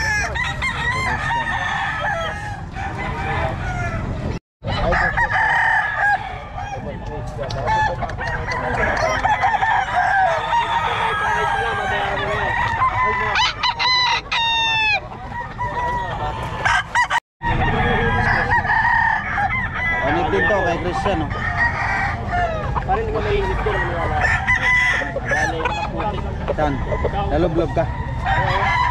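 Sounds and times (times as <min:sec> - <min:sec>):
rooster crowing: 0:00.0 - 0:07.0, 0:07.7 - 0:28.9
roosters crowing and clucking: 0:00.0 - 0:28.9.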